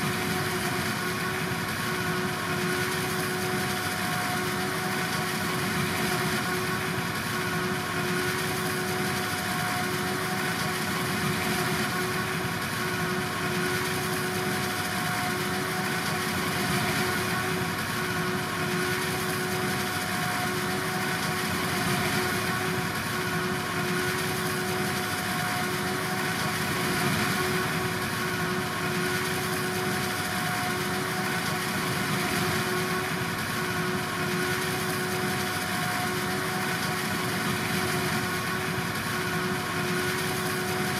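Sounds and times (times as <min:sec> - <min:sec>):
farm machinery engine drone: 0:00.0 - 0:40.9.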